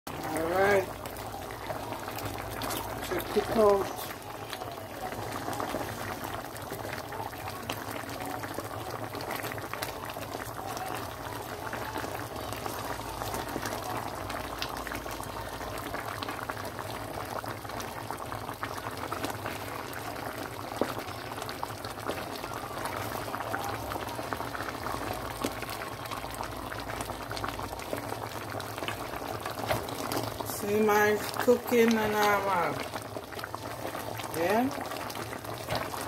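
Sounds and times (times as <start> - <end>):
sauce bubbling in a pan: 0.1 - 36.0.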